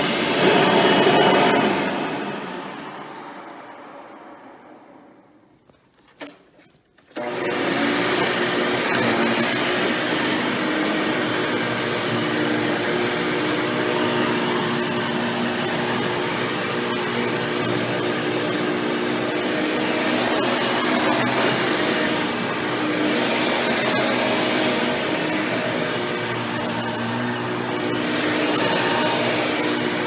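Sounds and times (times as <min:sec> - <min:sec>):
vacuum cleaner running: 0:00.0 - 0:04.6, 0:07.1 - 0:30.0.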